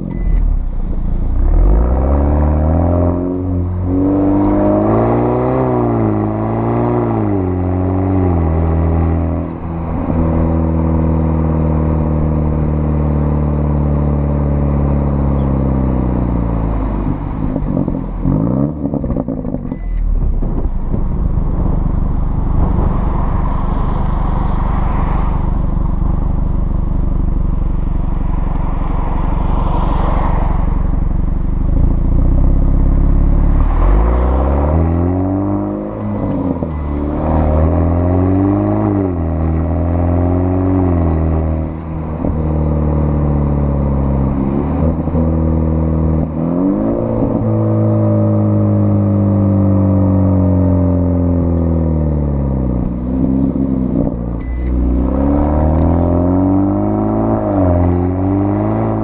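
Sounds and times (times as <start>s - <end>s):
car exhaust rumbling and revving: 0.0s - 59.0s.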